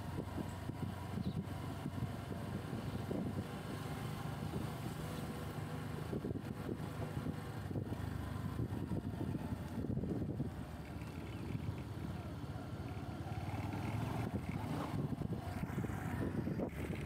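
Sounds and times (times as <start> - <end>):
wind rumble on microphone: 0.0 - 3.8, 4.4 - 11.9, 13.6 - 17.0
motorcycle engine running: 0.0 - 17.0.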